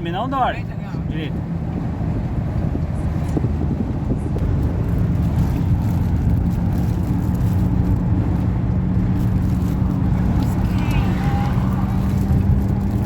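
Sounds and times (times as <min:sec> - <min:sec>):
road noise inside vehicle: 0:00.0 - 0:13.0
van engine drone: 0:00.0 - 0:13.0.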